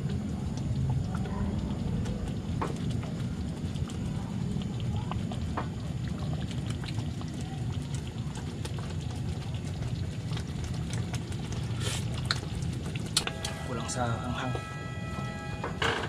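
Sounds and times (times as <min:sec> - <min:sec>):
sauce simmering with pops: 0:00.0 - 0:15.7.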